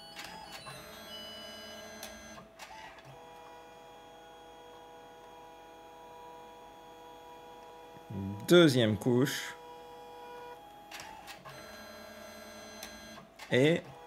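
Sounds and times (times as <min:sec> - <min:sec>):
faint motor tone: 0:00.0 - 0:14.0
photo printer feeding paper: 0:00.0 - 0:14.0.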